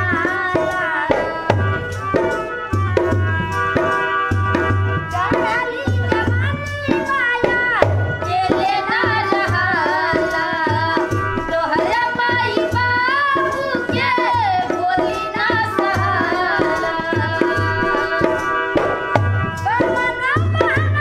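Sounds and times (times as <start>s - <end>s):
women singing: 0.0s - 1.9s, 5.1s - 18.7s, 19.6s - 21.0s
hand drum beat: 0.0s - 21.0s
harmonium chords: 0.0s - 21.0s.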